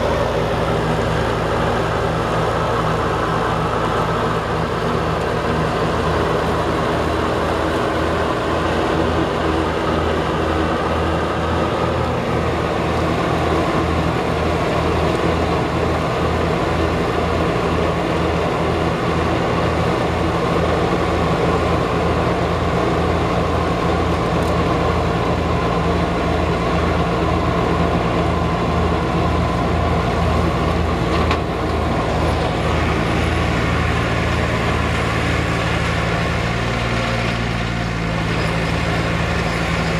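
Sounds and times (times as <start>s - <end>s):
tractor engine throbbing: 0.0s - 39.9s.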